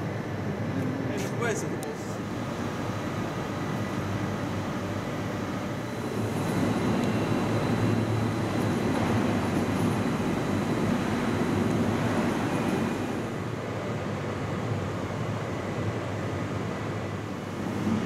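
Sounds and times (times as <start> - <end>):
electric locomotive running: 2.1 - 18.0.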